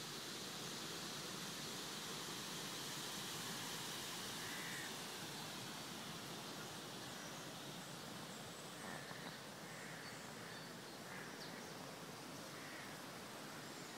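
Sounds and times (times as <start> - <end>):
outdoor hiss: 0.0 - 13.9.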